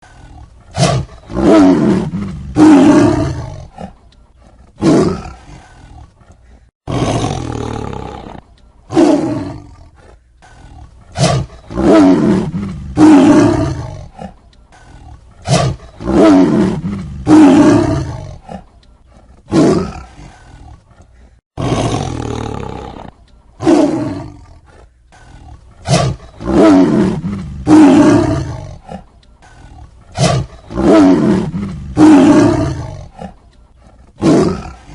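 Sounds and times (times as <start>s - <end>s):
tiger roaring: 0.0s - 34.9s.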